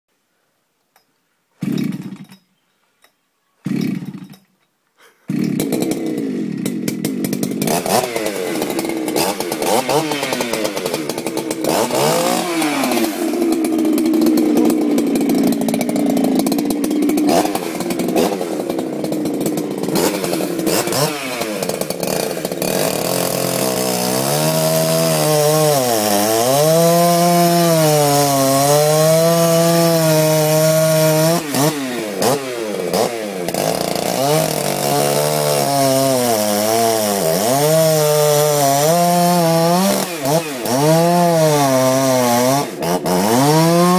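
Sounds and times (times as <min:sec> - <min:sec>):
chainsaw engine revving: 0:01.6 - 0:02.4, 0:03.6 - 0:04.4, 0:05.0 - 0:43.9.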